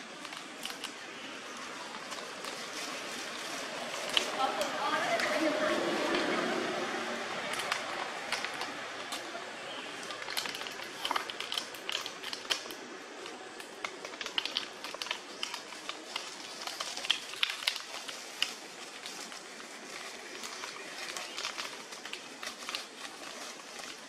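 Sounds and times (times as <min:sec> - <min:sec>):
leaf litter crackling: 0:00.0 - 0:24.0
twigs snapping: 0:00.1 - 0:05.4, 0:07.5 - 0:24.0.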